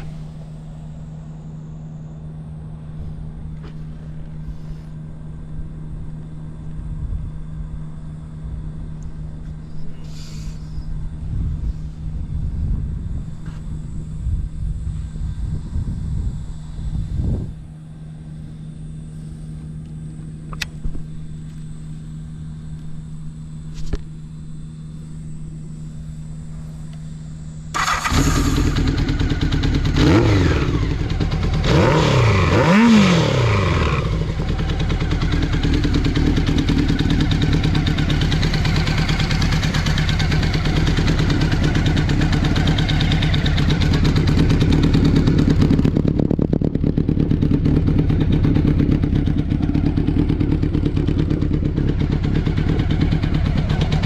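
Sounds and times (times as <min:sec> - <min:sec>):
motorcycle engine revving and idling: 0:00.0 - 0:54.0
steady low hum: 0:00.0 - 0:54.0.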